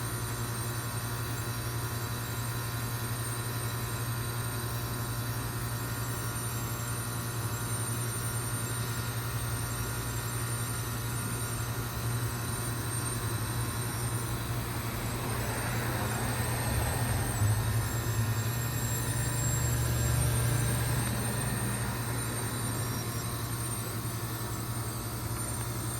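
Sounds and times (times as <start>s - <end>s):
heat pump low hum: 0.0s - 25.9s.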